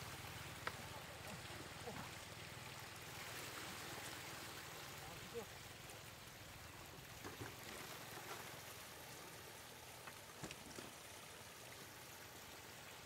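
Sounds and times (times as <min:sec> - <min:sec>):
water rushing over gravel: 0:00.0 - 0:13.0.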